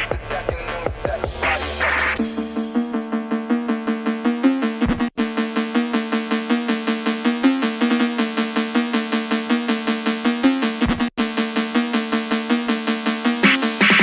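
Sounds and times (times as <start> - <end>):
fast synthesizer melody: 2.0 - 14.0.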